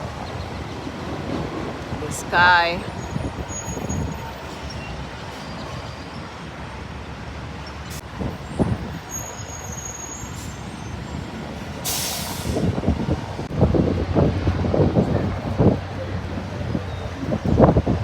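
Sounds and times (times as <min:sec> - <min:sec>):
heavy road traffic rumble: 0:00.0 - 0:18.0.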